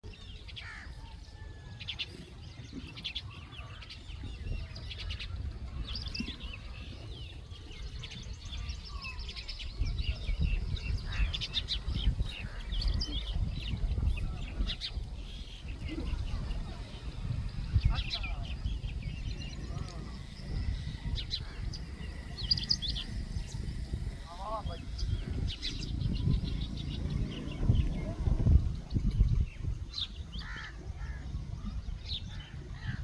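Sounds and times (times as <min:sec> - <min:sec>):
birds chirping and trilling: 0:00.0 - 0:33.0
low rumbling noise: 0:05.4 - 0:33.0.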